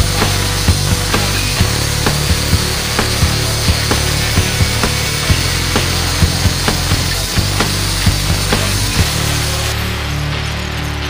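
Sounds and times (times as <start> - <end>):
grinder on steel: 0.0 - 11.0
music with steady beat: 0.0 - 11.0.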